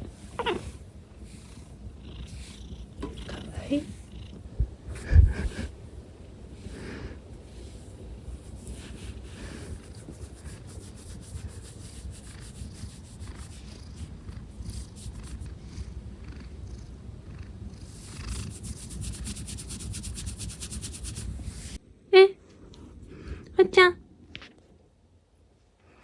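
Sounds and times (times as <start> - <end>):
cat purring: 0.0 - 5.7, 6.6 - 21.8.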